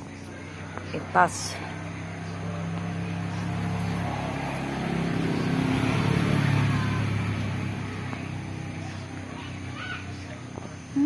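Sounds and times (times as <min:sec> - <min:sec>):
vehicle engine passing by: 0:00.0 - 0:11.0.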